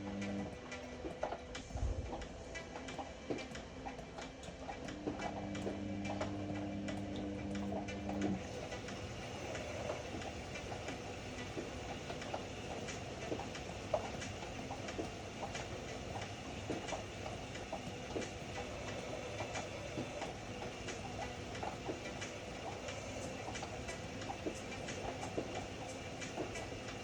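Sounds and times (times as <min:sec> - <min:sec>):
washer-dryer rumbling: 0:00.0 - 0:27.0.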